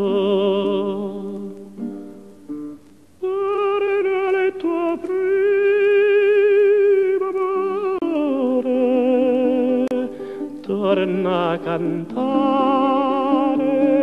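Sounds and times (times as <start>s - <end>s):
man singing with vibrato: 0.0s - 1.9s, 3.2s - 14.0s
plucked string accompaniment: 0.0s - 6.4s, 7.0s - 14.0s.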